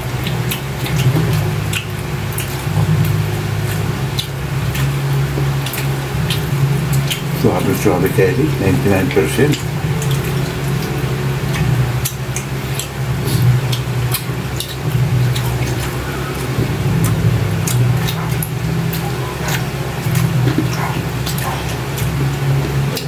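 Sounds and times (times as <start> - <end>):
loud low hum: 0.0 - 23.0
people chewing with lip-smacks: 0.0 - 23.0.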